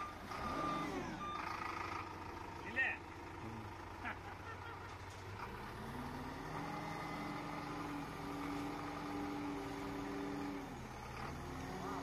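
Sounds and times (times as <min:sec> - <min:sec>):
heavy diesel engine revving: 0:00.0 - 0:04.0, 0:05.3 - 0:12.0.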